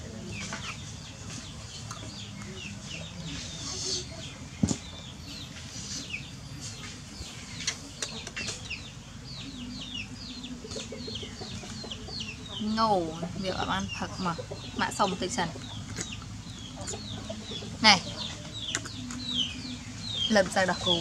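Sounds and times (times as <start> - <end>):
chickens clucking and peeping: 0.0 - 21.0.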